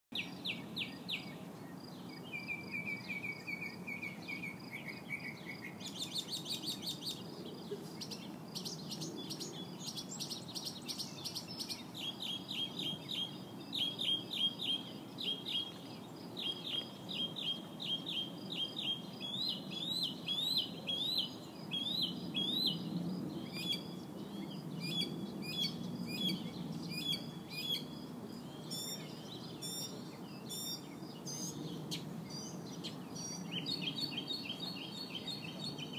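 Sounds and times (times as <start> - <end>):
bird singing loudly: 0.2 - 7.3, 8.0 - 31.6, 32.3 - 35.9.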